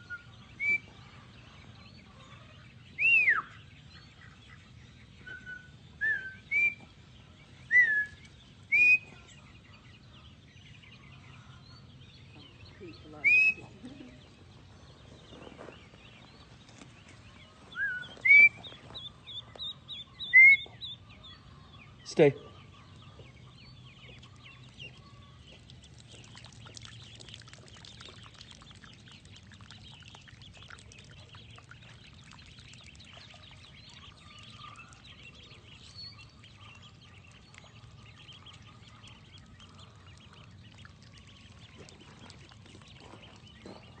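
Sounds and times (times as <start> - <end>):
ducklings peeping: 0.0 - 44.0.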